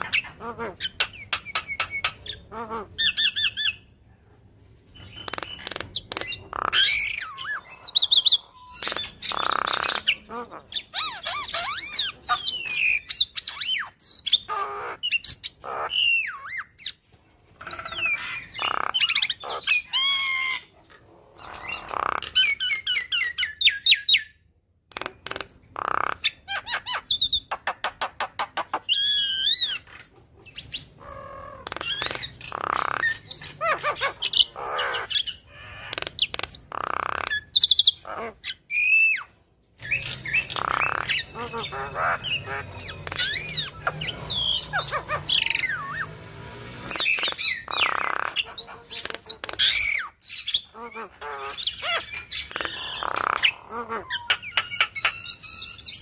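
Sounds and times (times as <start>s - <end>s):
bird chattering song: 0.0s - 3.9s, 4.9s - 17.0s, 17.6s - 56.0s.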